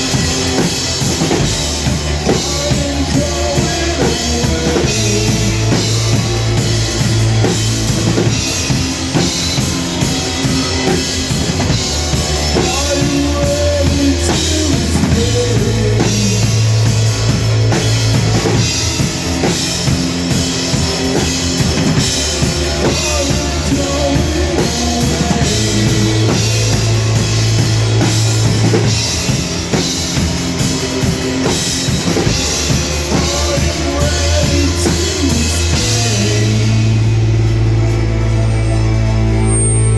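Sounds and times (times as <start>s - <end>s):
drum kit beat: 0.0s - 38.1s
bass notes: 0.0s - 39.9s.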